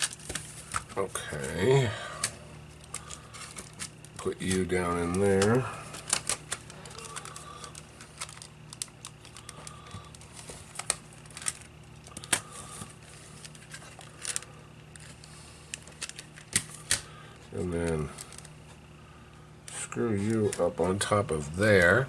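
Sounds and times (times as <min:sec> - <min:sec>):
faint crinkling: 0:00.0 - 0:21.1.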